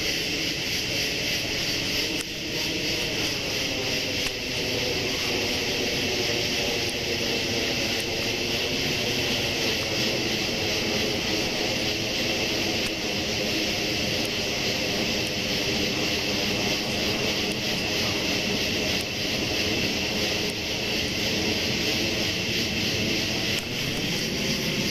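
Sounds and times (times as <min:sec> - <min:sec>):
aircraft engine humming overhead: 0:00.0 - 0:24.9
steady high hiss: 0:00.0 - 0:24.9.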